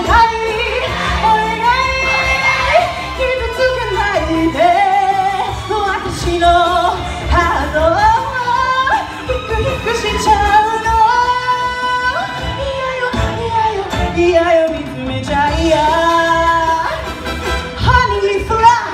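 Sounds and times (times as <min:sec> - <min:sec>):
woman singing into microphone: 0:00.0 - 0:17.1, 0:17.8 - 0:18.9.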